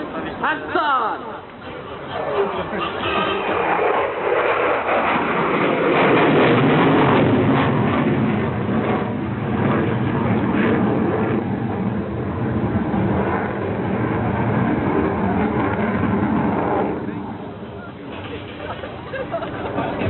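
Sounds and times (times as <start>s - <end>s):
fighter jet roaring: 1.7s - 20.0s.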